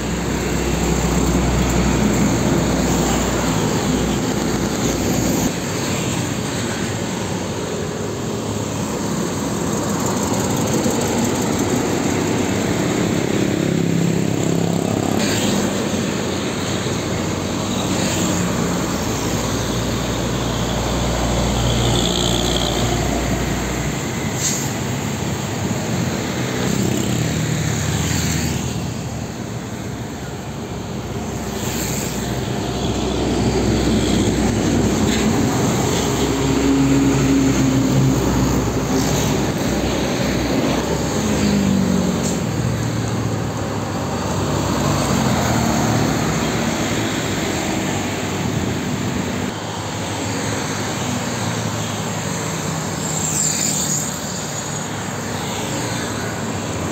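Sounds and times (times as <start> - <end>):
diesel trucks driving past: 0.0 - 56.9
motorcycles in traffic: 0.0 - 56.9.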